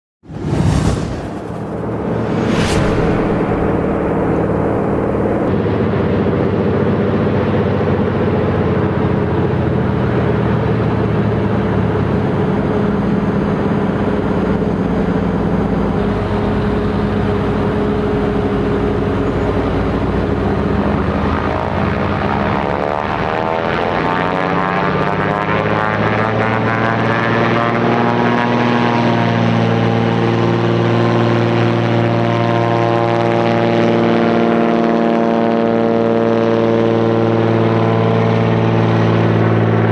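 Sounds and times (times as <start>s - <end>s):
propeller plane engine running: 0.3s - 39.9s.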